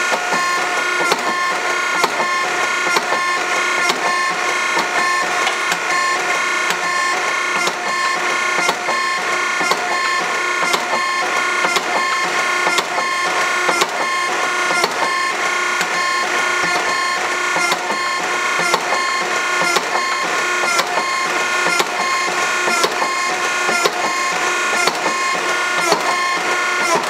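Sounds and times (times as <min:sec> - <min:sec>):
hydraulic pump whining: 0:00.0 - 0:27.0.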